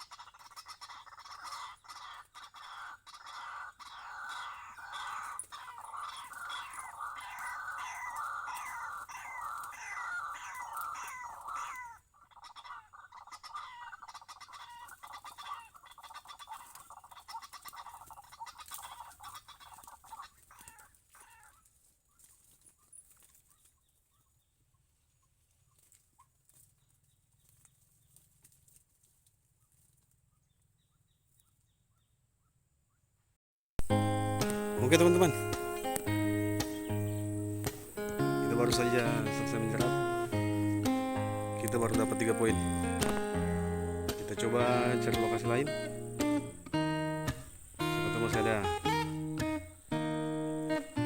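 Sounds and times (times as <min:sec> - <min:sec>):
waterhen calling: 0:00.0 - 0:24.3, 0:34.0 - 0:51.0.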